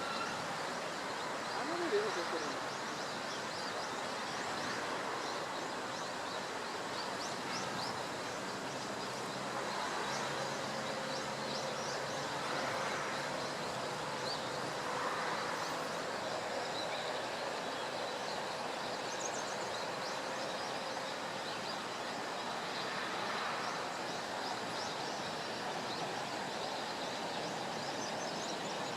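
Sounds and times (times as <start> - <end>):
steady rushing background noise: 0.0 - 28.9.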